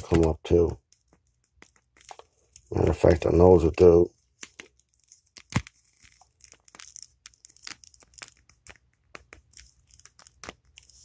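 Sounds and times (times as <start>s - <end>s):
hands handling plastic action figure: 0.0s - 11.0s.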